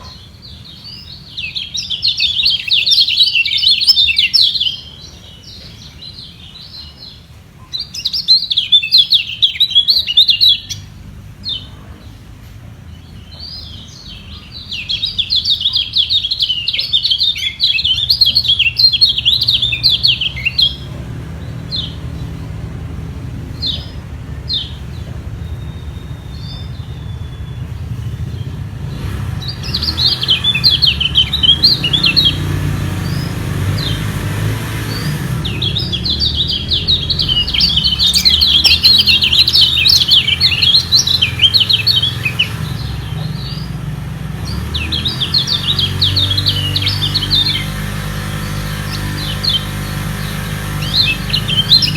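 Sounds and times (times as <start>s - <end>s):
birds twittering: 0.0s - 51.9s.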